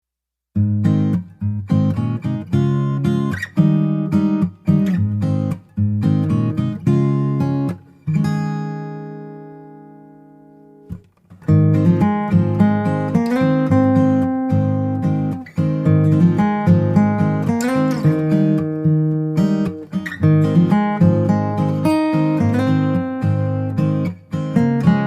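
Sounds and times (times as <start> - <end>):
strummed acoustic guitar chords: 0.6 - 25.0.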